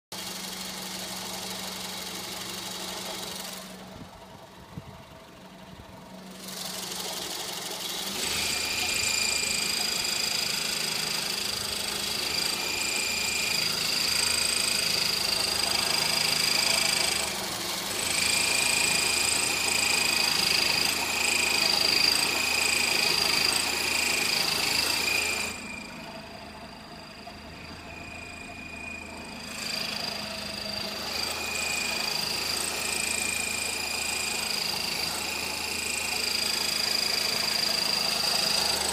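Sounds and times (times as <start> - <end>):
car engine running: 0.1 - 38.9.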